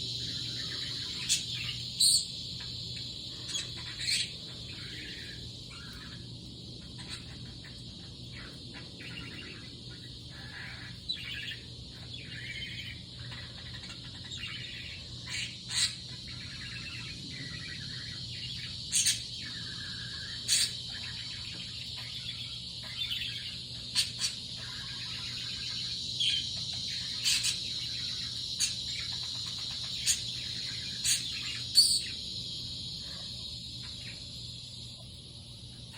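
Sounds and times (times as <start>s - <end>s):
sharp high bird chirps: 0.0s - 35.0s.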